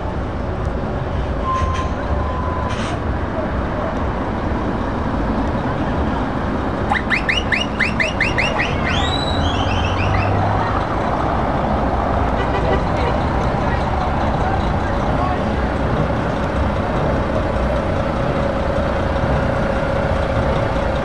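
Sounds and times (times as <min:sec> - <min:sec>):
lorry diesel engines rumbling: 0:00.0 - 0:21.0.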